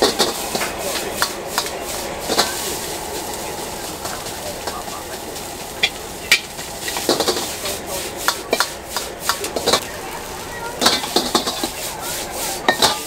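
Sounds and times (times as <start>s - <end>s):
metal ladle scraping a wok: 0.0s - 9.9s, 10.6s - 13.0s
food sizzling: 0.0s - 13.0s.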